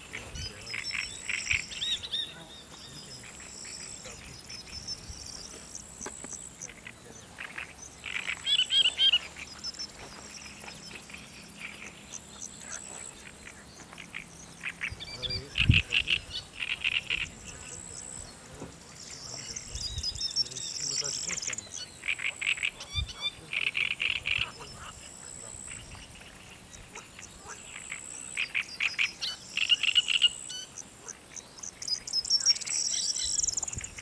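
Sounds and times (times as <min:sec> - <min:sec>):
animal calls: 0:00.0 - 0:34.0
high-pitched insect trill: 0:00.0 - 0:34.0.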